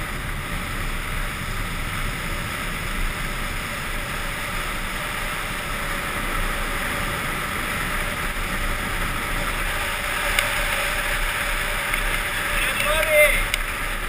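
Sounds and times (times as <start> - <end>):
longboard wheels rolling on asphalt: 0.0 - 14.0.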